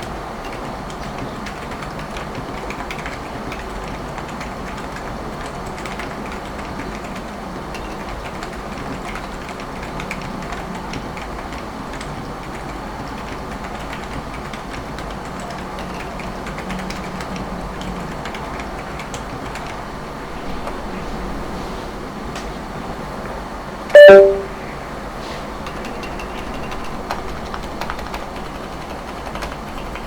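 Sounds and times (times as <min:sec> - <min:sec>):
soft muffled keyboard typing: 0:00.0 - 0:19.8, 0:24.0 - 0:24.4, 0:25.6 - 0:30.0.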